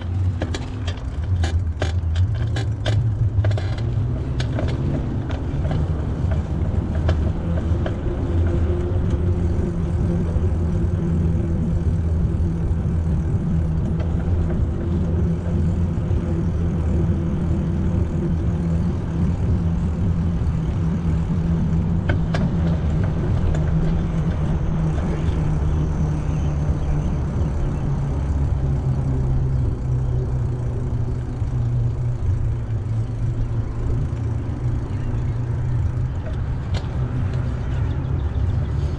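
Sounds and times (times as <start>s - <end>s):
tyre and road noise: 0.0s - 38.9s
wind rumble on microphone: 0.0s - 38.9s.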